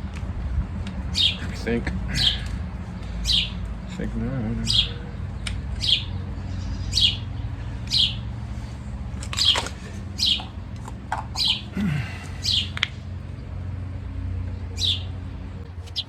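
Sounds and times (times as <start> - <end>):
steady low hum: 0.0 - 16.0
bird chirping: 1.1 - 8.4, 9.3 - 10.6, 11.2 - 16.0.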